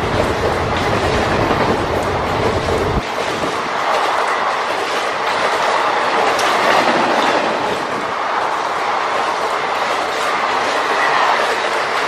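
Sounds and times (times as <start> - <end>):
train coaches rushing past: 0.0 - 12.0.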